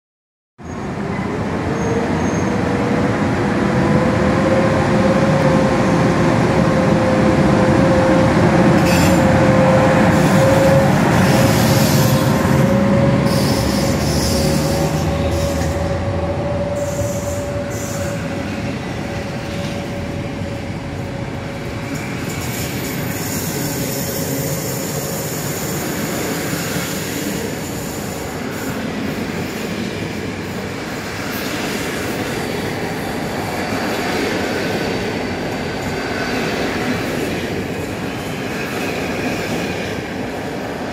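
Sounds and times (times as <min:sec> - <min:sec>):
electric locomotive whine: 0:00.6 - 0:40.9
train coaches rumbling: 0:00.6 - 0:40.9.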